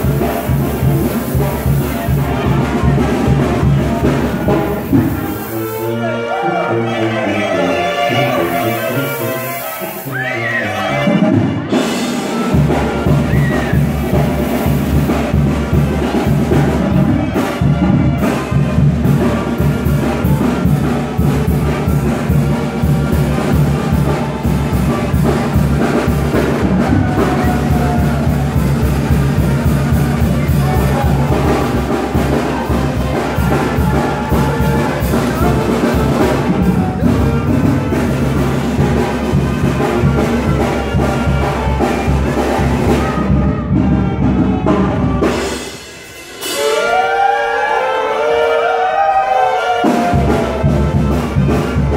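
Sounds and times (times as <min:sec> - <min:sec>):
dance music with brass and drums: 0:00.0 - 0:51.9.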